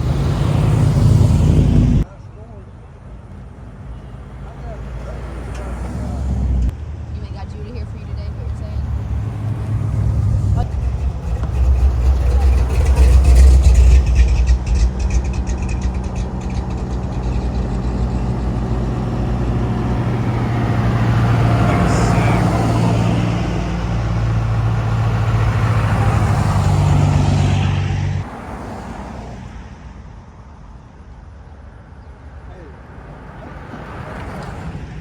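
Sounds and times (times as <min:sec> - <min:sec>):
car engine humming: 0:00.0 - 0:02.1, 0:03.1 - 0:29.5.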